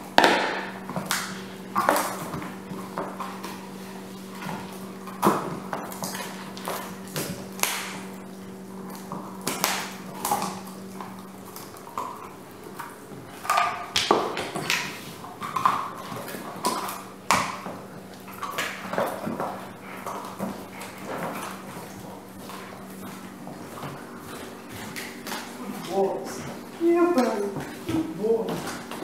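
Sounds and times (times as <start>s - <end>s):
dog gnawing a hard chew: 0.0s - 29.0s.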